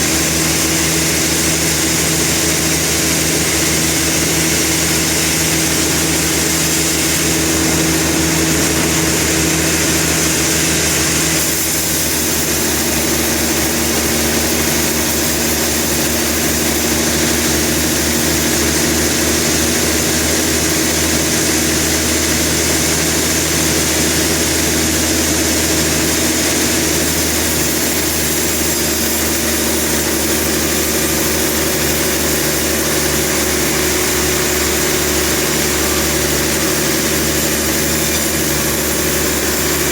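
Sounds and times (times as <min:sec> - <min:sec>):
sawmill machinery engine humming: 0:00.0 - 0:39.9.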